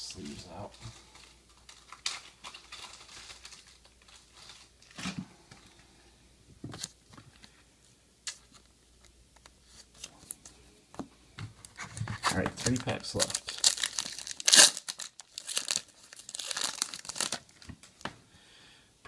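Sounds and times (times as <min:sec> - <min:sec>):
cards and plastic sleeves rustling: 0:00.0 - 0:05.8, 0:06.6 - 0:18.1.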